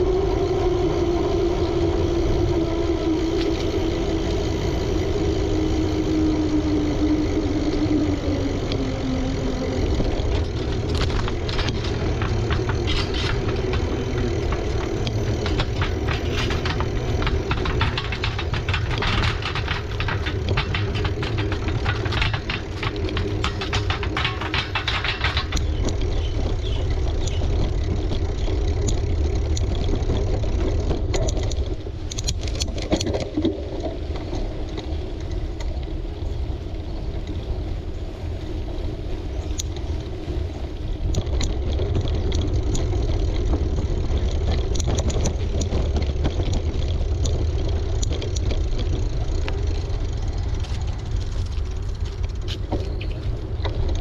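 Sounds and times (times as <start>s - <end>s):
bicycle tyre noise: 0.0s - 54.0s.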